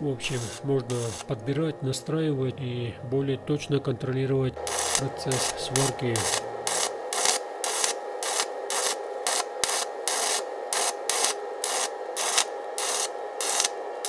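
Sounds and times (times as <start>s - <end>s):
welding arc crackling: 0.0s - 2.0s, 4.6s - 14.0s.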